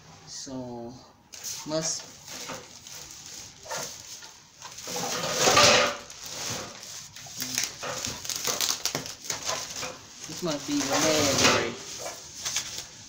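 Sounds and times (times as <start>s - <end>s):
paper rustling and crinkling: 1.3s - 13.0s.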